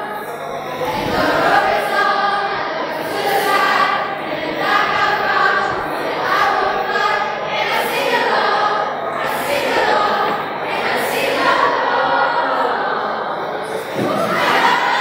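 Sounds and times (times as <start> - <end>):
group singing in chorus: 0.0 - 15.0.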